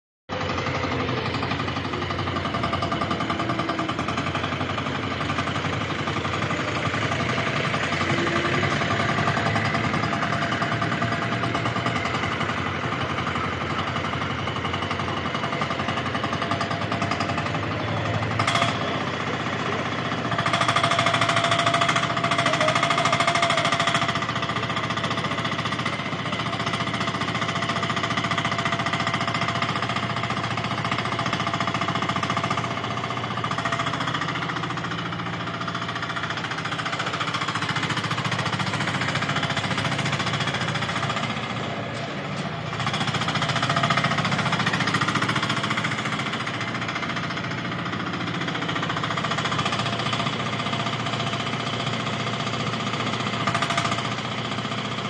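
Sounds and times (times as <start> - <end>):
small engine rattling: 0.3 - 55.0.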